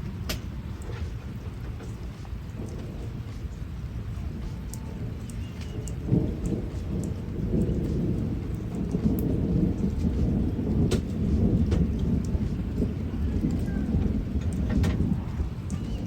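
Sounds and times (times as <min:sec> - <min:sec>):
low rumble of thunder: 0:00.0 - 0:16.0
steady rain falling: 0:00.0 - 0:16.0.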